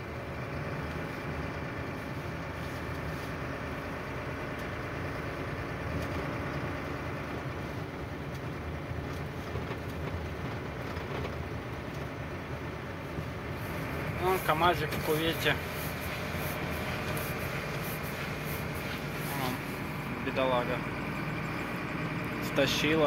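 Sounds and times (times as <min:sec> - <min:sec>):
road noise on snow: 0:00.0 - 0:23.0
truck engine drone: 0:00.0 - 0:23.0.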